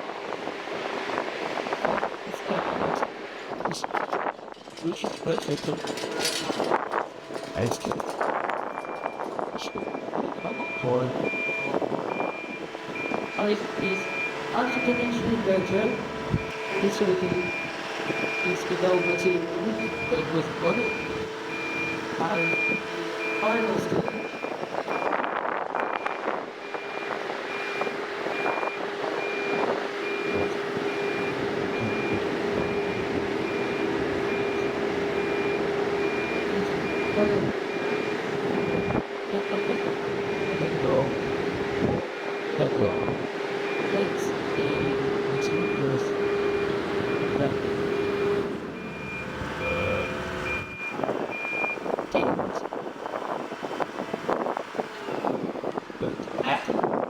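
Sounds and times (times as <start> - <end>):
machine engine drone: 2.7 - 25.2, 26.6 - 55.6
reversing alarm beeping: 5.1 - 52.4.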